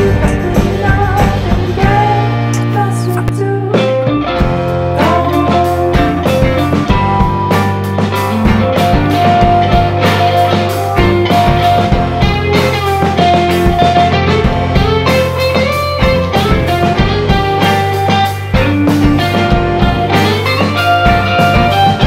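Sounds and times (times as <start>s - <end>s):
background music with steady beat: 0.0s - 22.0s.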